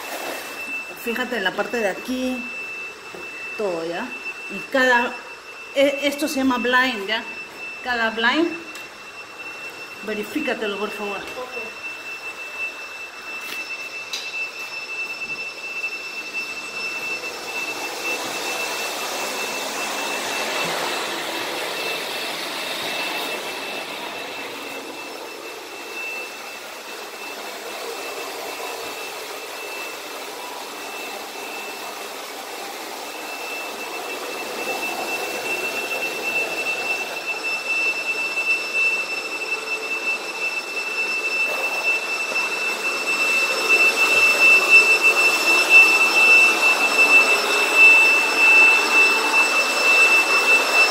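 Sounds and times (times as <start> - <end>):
vacuum cleaner motor whine: 0.0 - 50.9.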